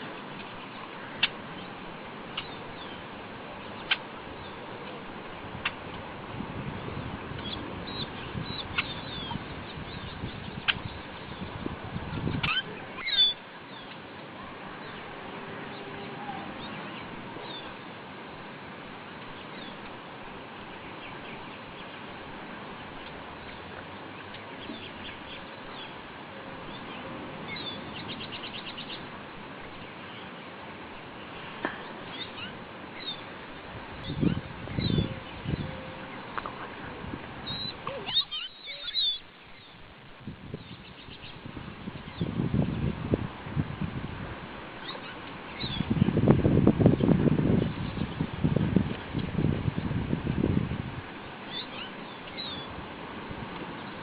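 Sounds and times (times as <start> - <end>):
small birds chirping: 0.0 - 6.0, 6.6 - 18.0, 19.0 - 20.0, 20.6 - 43.0, 44.7 - 50.0, 51.1 - 52.8
steady background hiss: 0.0 - 54.0.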